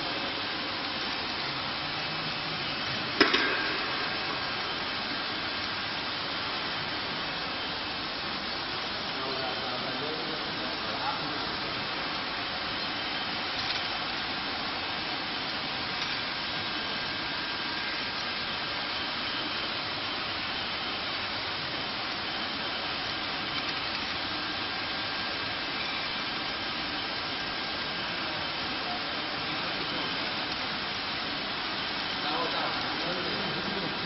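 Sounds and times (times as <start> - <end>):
machine whirring and hissing: 0.0 - 34.0.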